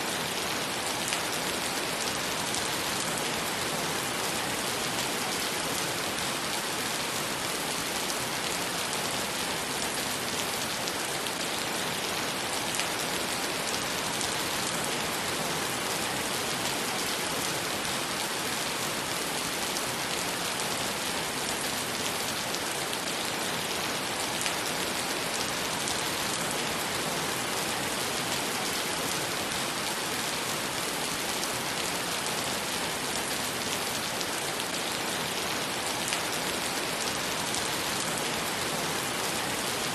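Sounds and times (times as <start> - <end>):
heavy rain on pavement: 0.0 - 39.9.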